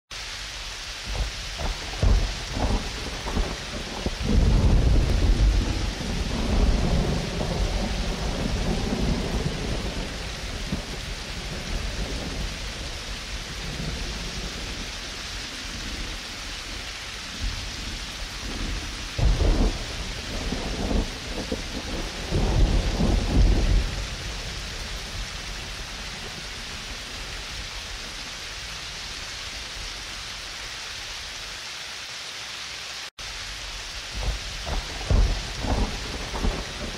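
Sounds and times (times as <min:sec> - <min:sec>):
steady rain: 0:00.1 - 0:36.9
rolling thunder: 0:01.1 - 0:28.3, 0:34.1 - 0:36.9.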